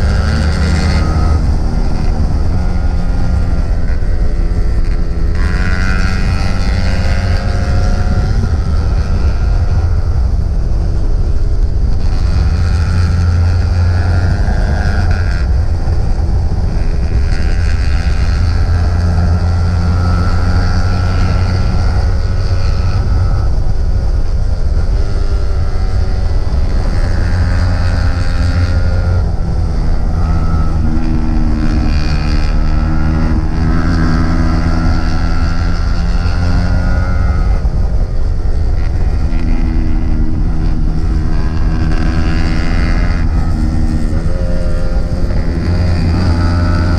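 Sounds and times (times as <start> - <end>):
motorcycle engine revving: 0.0 - 46.9
wind rumble on microphone: 0.0 - 46.9.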